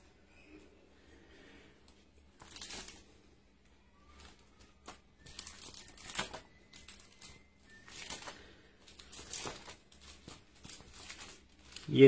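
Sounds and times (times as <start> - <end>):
plastic album pages turning: 1.8 - 12.0.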